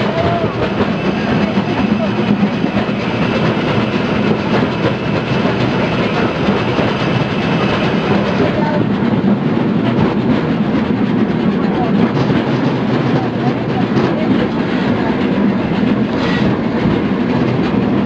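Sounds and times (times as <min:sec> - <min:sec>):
steam tram running: 0:00.0 - 0:18.0.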